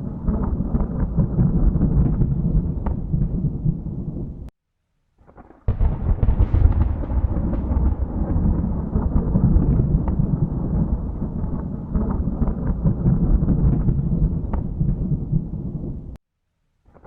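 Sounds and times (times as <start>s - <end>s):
thunder clap: 0.0s - 4.5s, 5.3s - 16.2s
thunder rumbling: 0.0s - 4.5s, 5.3s - 16.2s.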